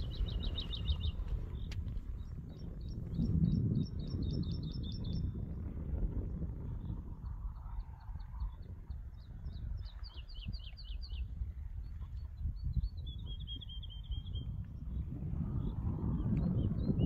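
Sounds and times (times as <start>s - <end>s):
songbirds singing: 0.0s - 5.6s, 6.6s - 17.0s
wind buffeting microphone: 0.0s - 17.0s.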